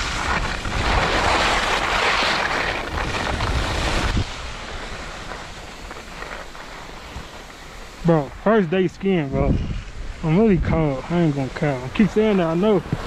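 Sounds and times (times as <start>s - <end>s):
wind rushing over microphone: 0.0s - 5.9s, 6.6s - 13.0s
skis scraping on snow: 0.0s - 13.0s.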